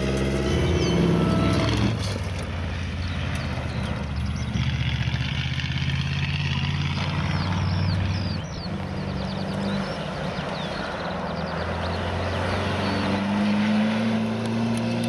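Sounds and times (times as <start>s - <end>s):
car engine humming: 0.0s - 15.0s
higher-pitched car engine: 0.0s - 15.0s.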